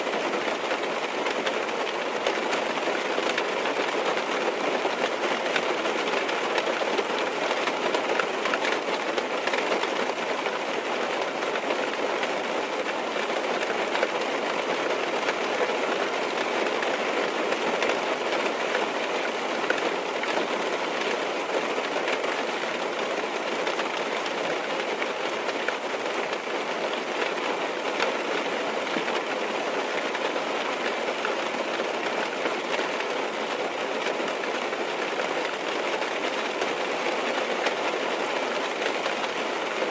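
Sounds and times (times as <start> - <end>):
rain drumming on car roof: 0.0 - 39.9.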